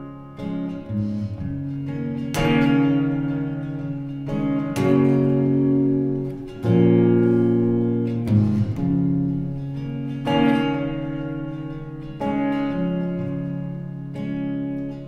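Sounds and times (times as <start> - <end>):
acoustic guitar chords ringing: 0.0 - 15.0.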